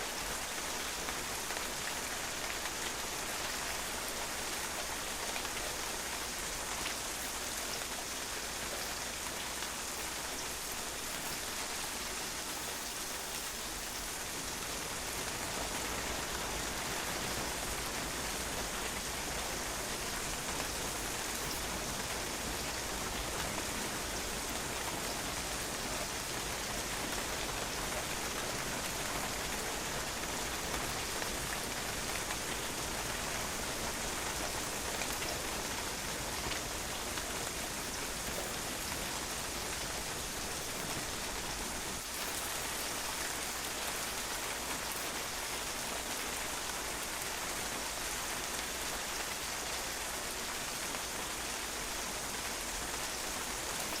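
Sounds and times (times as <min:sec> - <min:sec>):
rain spattering on patio: 0:00.0 - 0:54.0.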